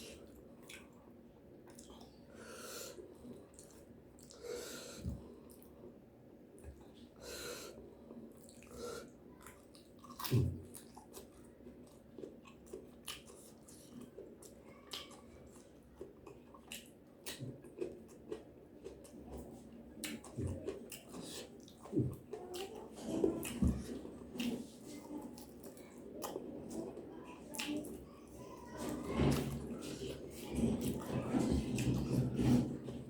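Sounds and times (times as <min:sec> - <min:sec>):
person chewing food: 0:00.0 - 0:01.0, 0:01.6 - 0:02.2, 0:08.1 - 0:33.0.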